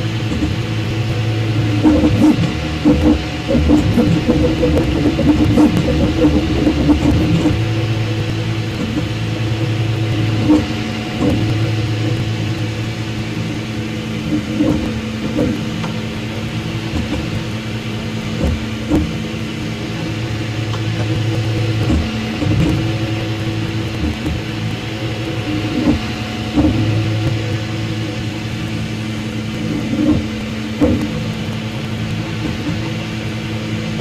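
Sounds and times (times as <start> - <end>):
stepper motors humming: 0.0 - 34.0.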